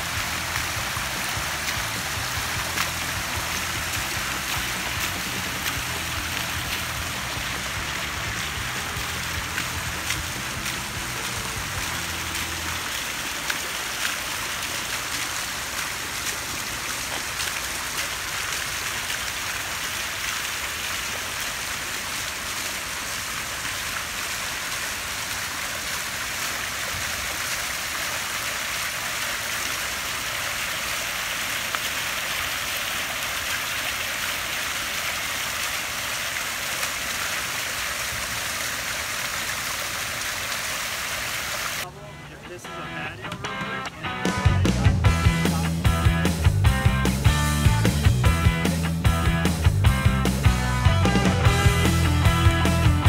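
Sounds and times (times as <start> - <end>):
fountain water splashing: 0.0 - 53.0.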